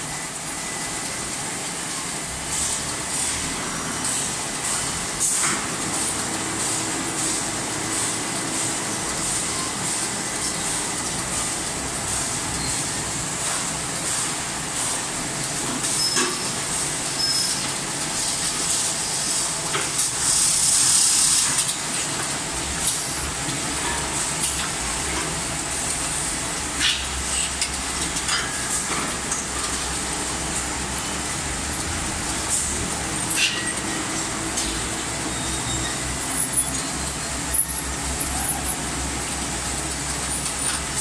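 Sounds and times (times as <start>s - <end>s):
packing machine running: 0.0s - 41.0s
pneumatic grippers clacking: 2.4s - 10.7s, 12.1s - 41.0s.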